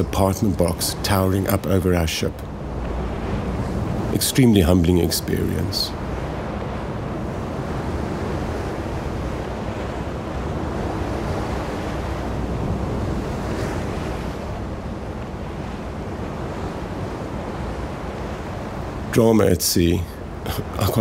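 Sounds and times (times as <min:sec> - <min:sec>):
choppy sea water: 0:00.0 - 0:21.0
wind buffeting microphone: 0:00.0 - 0:21.0.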